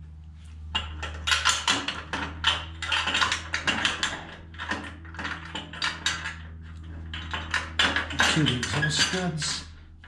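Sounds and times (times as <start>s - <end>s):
steady low hum: 0.0s - 10.0s
metallic clicking and scraping: 0.7s - 9.6s.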